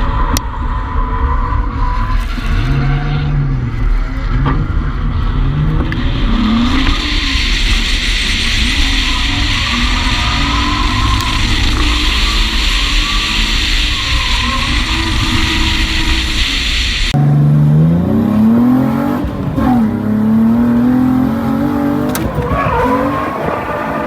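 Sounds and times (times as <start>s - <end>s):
car engine and tyre noise: 0.0s - 24.0s
car engine revving: 0.0s - 24.0s.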